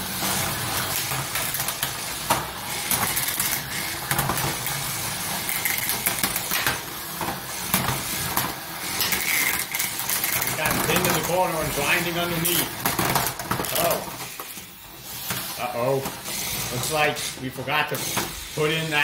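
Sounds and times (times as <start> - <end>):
toy robot motors whirring: 0.0 - 19.0.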